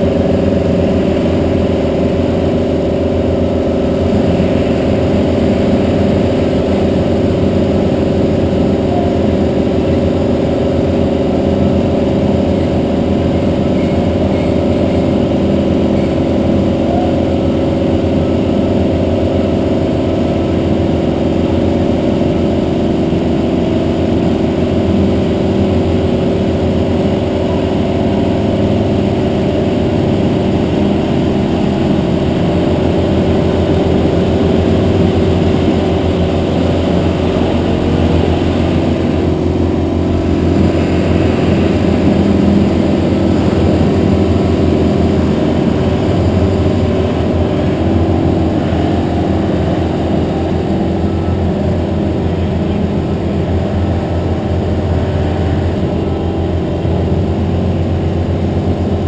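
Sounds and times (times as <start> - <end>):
engine running loud drone: 0.0 - 59.0.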